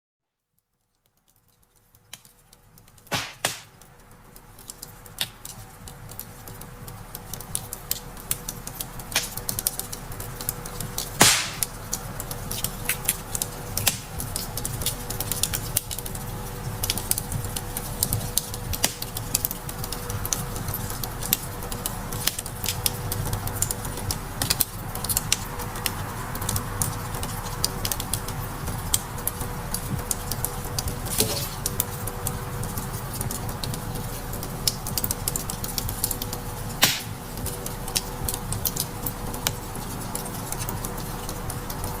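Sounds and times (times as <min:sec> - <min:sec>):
wood fire crackling and popping: 0:01.0 - 0:42.0
flames rumbling: 0:02.0 - 0:42.0.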